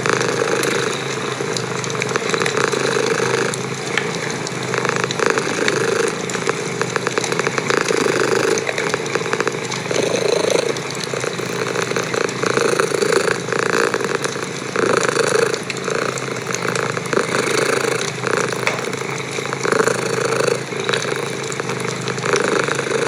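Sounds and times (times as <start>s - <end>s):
cat purring: 0.0s - 23.0s
wood fire crackling: 0.2s - 23.0s.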